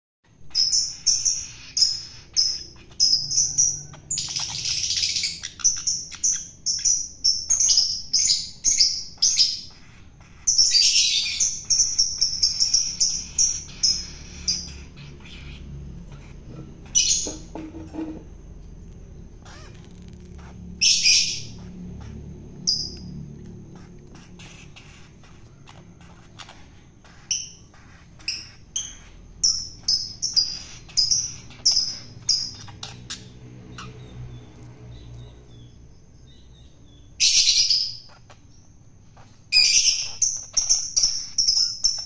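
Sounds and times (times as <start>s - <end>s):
bird harsh rasping calls: 0.3s - 18.4s, 19.1s - 42.0s
bird high chirps: 0.3s - 42.0s.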